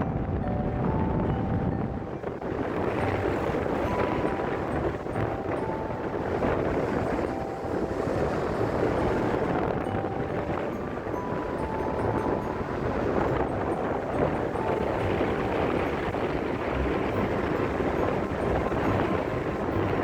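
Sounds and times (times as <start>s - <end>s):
vehicle noise: 0.0s - 20.0s
wind rumbling on microphone: 0.0s - 20.0s.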